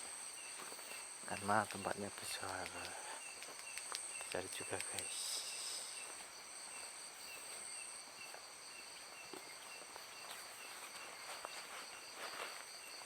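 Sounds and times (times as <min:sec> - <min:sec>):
crickets trilling: 0:00.0 - 0:13.0
short insect chirp: 0:00.0 - 0:13.0.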